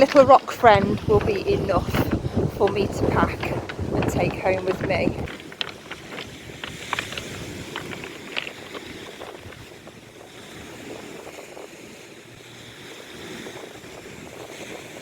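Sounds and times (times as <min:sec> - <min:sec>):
sea surf: 0:00.0 - 0:15.0
wind: 0:00.0 - 0:15.0.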